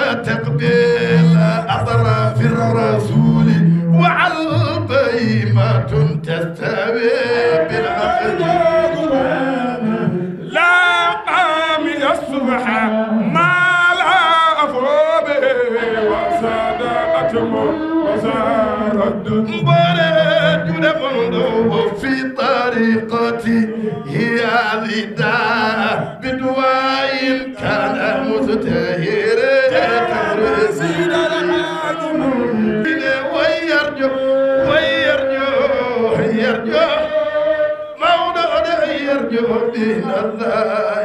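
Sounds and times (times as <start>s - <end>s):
men chanting into microphones: 0.0s - 41.0s.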